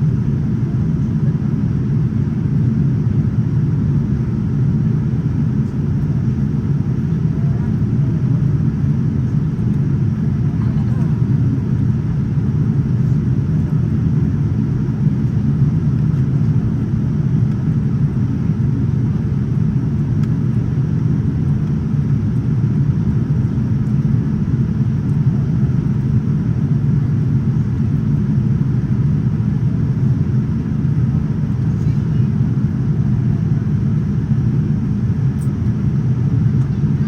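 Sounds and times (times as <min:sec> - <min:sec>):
airliner engines droning: 0:00.0 - 0:37.0.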